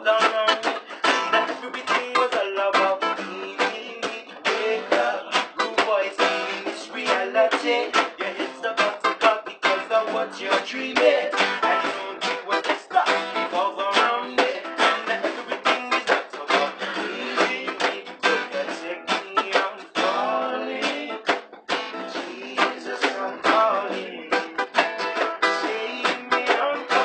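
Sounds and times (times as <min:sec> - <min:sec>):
guitars and ukulele strummed: 0:00.0 - 0:27.0.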